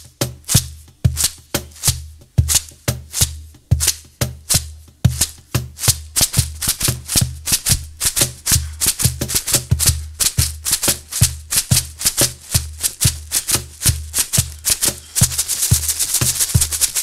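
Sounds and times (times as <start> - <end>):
bass drum beat: 0.0 - 17.0
rain stick shaken: 0.0 - 17.0.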